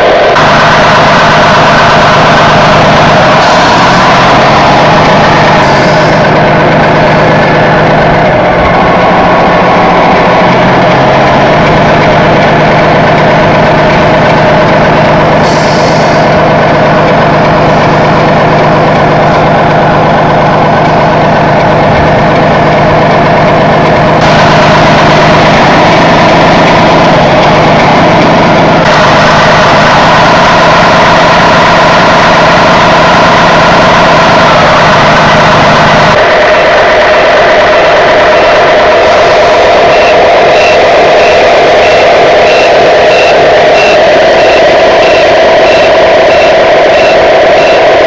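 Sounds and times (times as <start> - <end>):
truck engine idling: 0.0 - 48.0.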